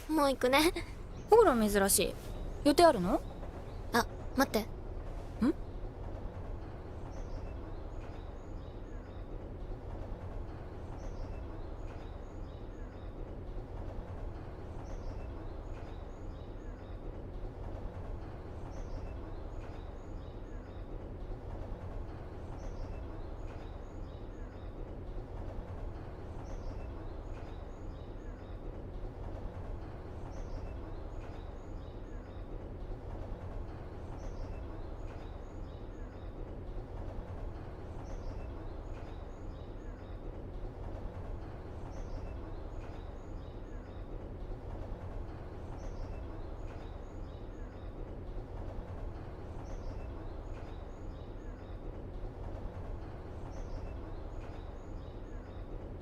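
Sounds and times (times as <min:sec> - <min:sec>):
low background ambience: 0:00.0 - 0:56.0.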